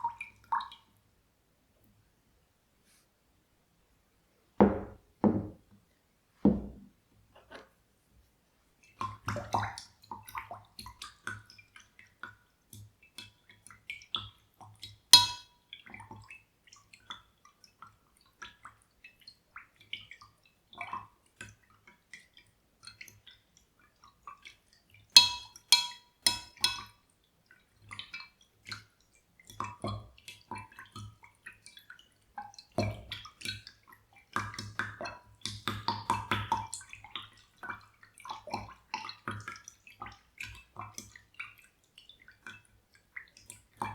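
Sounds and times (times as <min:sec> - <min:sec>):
water dripping and splashing: 0:00.0 - 0:00.9, 0:08.8 - 0:43.9.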